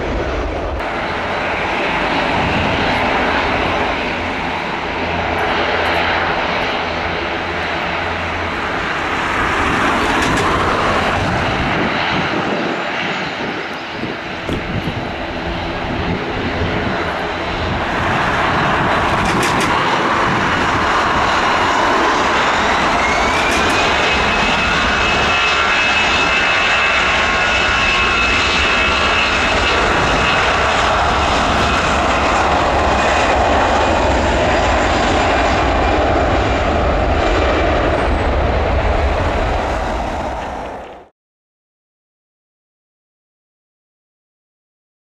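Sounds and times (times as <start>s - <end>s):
airliner engines roaring: 0.0s - 41.1s
engine high whine: 0.0s - 41.1s.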